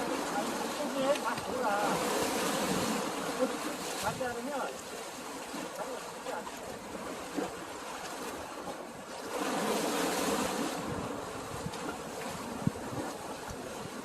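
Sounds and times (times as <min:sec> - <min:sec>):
waves washing on shore: 0:00.0 - 0:14.0.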